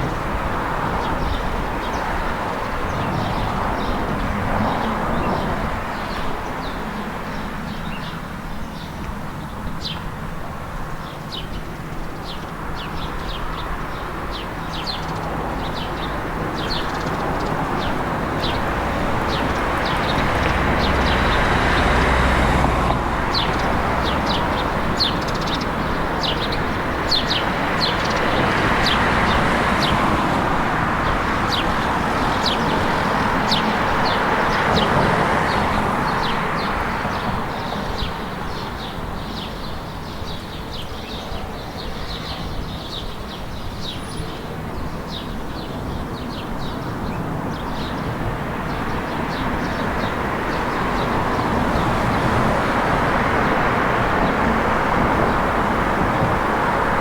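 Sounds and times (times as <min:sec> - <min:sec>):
town background noise: 0:00.0 - 0:57.0
small birds chirping: 0:11.0 - 0:57.0.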